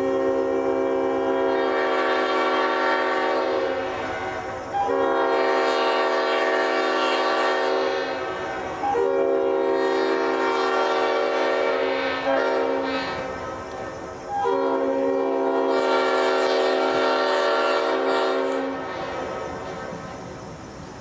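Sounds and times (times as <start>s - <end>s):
air horn blasts: 0.0s - 20.0s.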